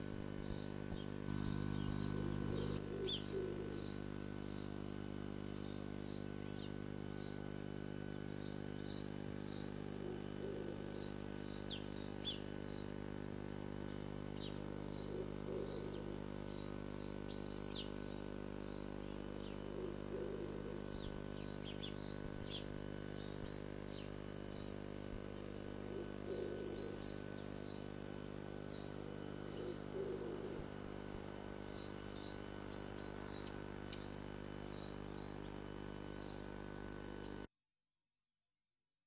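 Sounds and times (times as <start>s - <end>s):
steady electrical hum: 0.0s - 37.5s.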